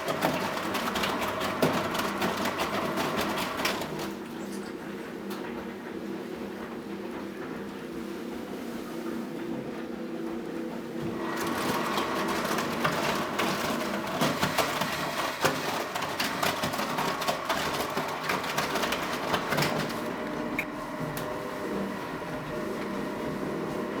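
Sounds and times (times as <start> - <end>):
washing machine rushing with clicks: 0.0 - 8.5, 9.3 - 24.0
washing machine hum: 0.0 - 24.0.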